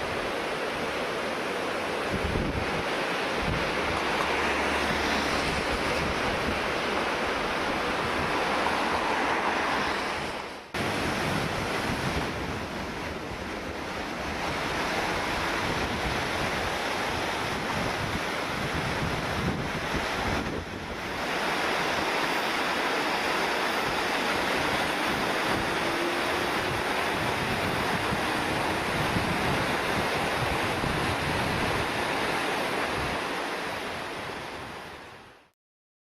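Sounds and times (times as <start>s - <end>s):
river water rushing: 0.0s - 35.5s
wind buffeting microphone: 2.0s - 9.1s, 9.7s - 22.6s, 23.3s - 35.1s.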